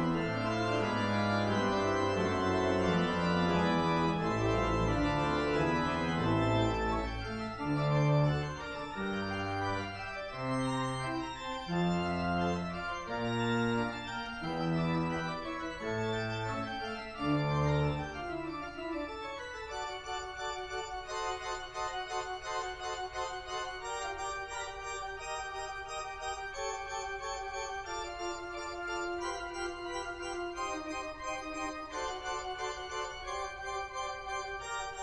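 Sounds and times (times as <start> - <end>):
church organ playing: 0.0 - 35.0.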